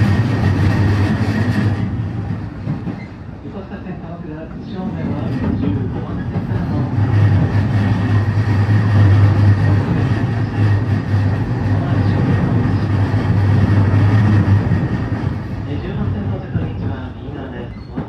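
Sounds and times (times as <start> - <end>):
low drone inside train: 0.0 - 18.0
train wheels rumbling on rail: 0.0 - 18.0.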